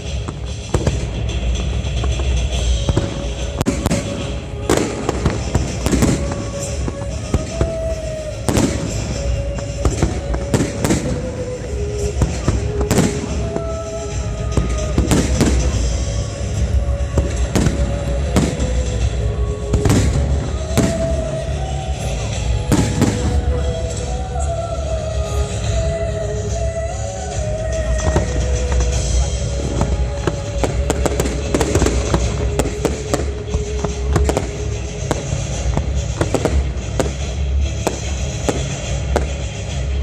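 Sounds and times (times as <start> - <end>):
fireworks bursting: 0.0 - 40.0
music with slow held notes: 0.0 - 40.0.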